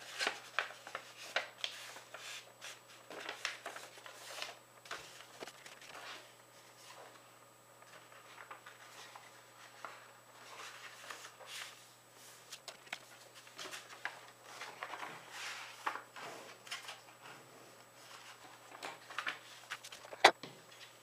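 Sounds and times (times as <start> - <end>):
paper rustling and folding: 0.0 - 21.0.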